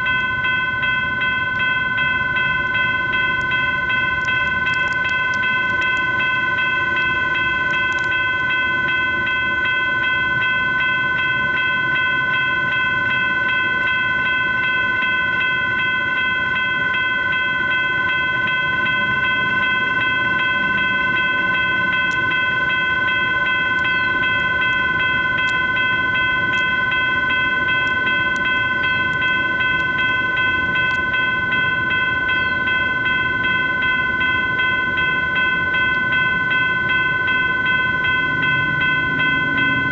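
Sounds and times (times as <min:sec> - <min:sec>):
electronic crossing bell ringing: 0:00.0 - 0:39.9.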